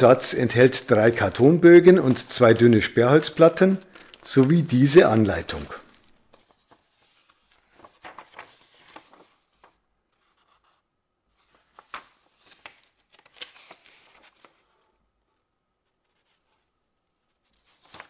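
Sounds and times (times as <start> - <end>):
paper leaflet rustling: 0.1 - 18.0.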